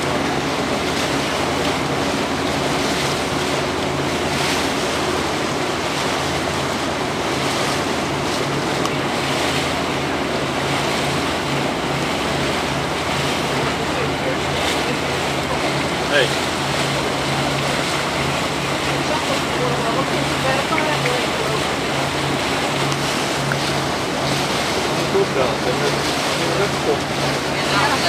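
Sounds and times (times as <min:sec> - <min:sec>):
motorboat engine humming: 0:00.0 - 0:28.0
water rushing along hull: 0:00.0 - 0:28.0.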